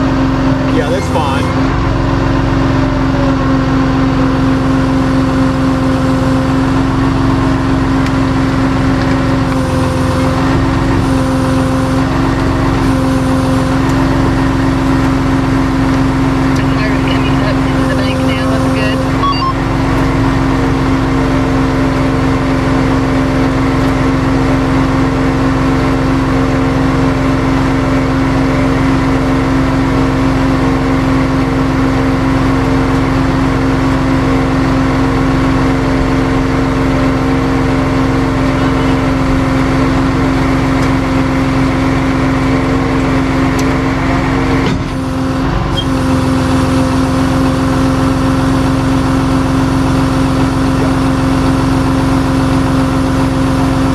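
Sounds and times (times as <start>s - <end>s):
truck engine droning: 0.0s - 53.9s.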